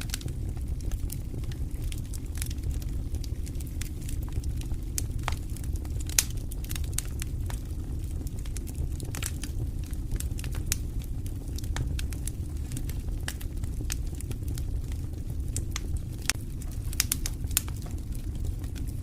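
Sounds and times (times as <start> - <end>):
campfire crackling and popping: 0.0 - 19.0
low rumble of burning fire: 0.0 - 19.0.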